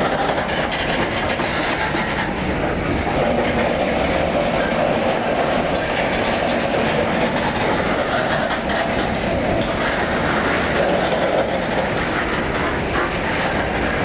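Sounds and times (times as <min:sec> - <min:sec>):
train wheels clattering on rails: 0:00.0 - 0:14.0.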